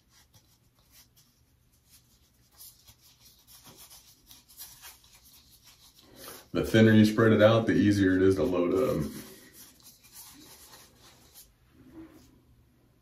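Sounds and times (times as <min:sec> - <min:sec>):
fingertips rubbing soap in bowl: 0:00.0 - 0:11.5.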